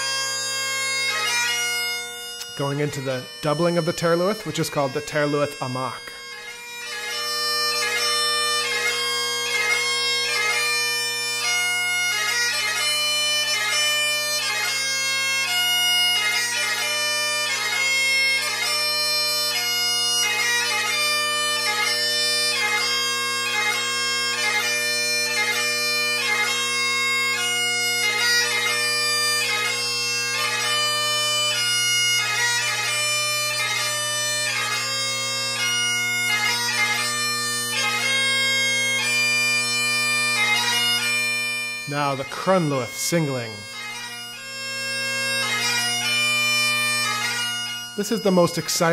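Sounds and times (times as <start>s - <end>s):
bagpipe playing: 0.0s - 48.9s.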